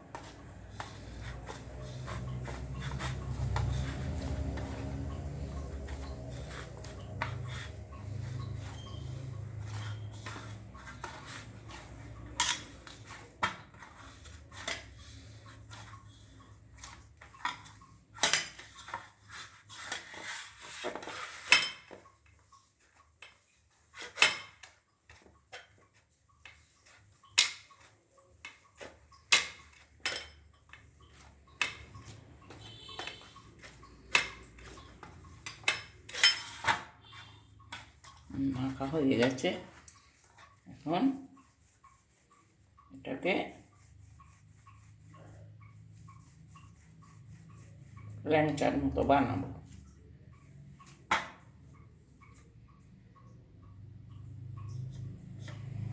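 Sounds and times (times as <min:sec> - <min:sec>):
dough kneaded by hand: 0:00.0 - 0:55.9.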